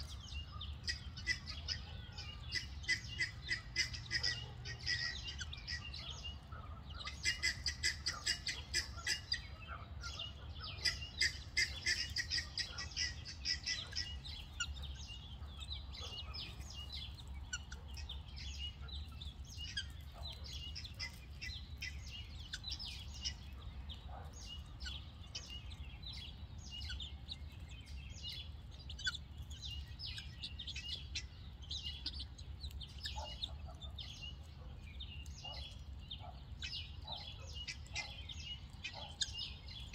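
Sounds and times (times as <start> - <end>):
guinea fowl chattering calls: 0.0 - 26.2, 28.9 - 34.5, 35.4 - 39.9.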